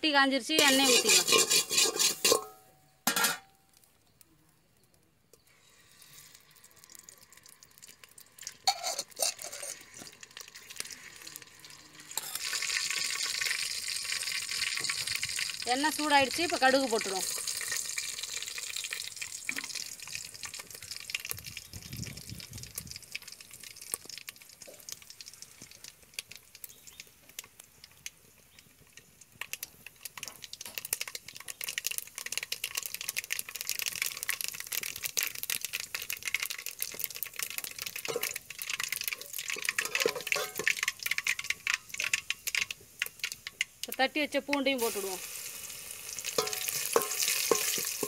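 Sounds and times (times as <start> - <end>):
mustard seeds popping in hot oil: 0.1 - 48.0.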